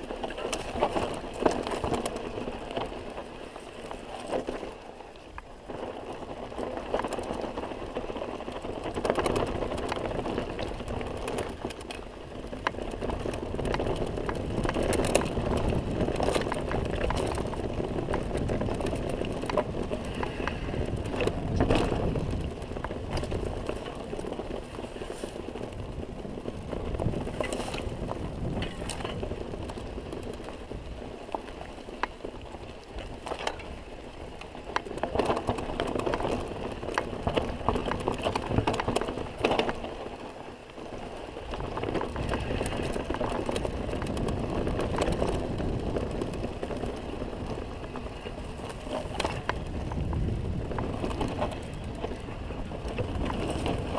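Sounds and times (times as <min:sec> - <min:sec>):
bike rattling over bumps: 0:00.0 - 0:53.9
bike tyres rumbling on gravel: 0:00.0 - 0:53.9.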